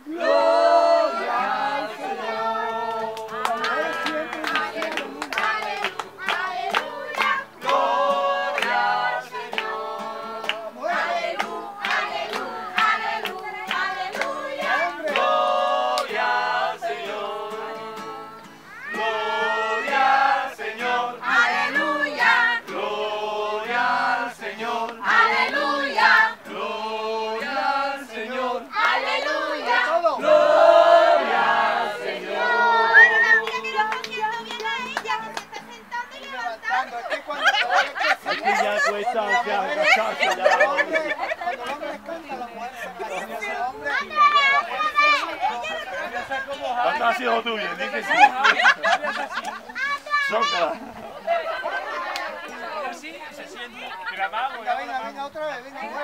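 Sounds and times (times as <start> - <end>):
group singing worship song: 0.0 - 34.8, 36.6 - 49.4.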